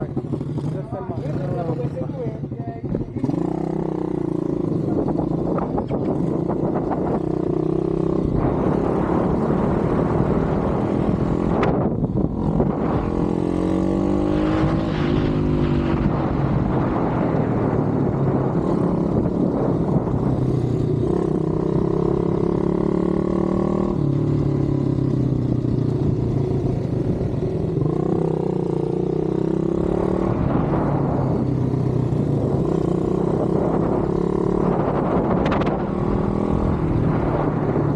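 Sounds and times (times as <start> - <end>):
pit bike engine revving: 3.1 - 37.9.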